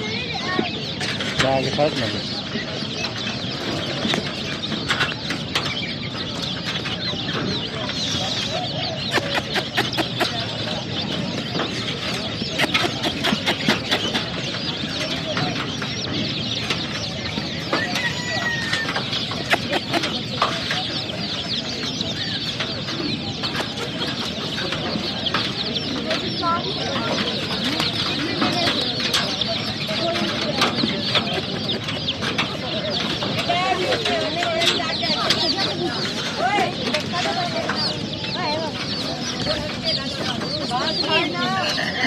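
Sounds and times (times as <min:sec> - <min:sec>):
baby chicks peeping: 0:00.0 - 0:42.0.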